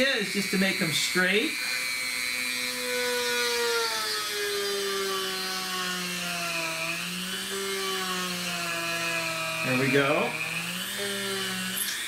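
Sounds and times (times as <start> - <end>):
rotary tool drilling wood: 0.0 - 12.0.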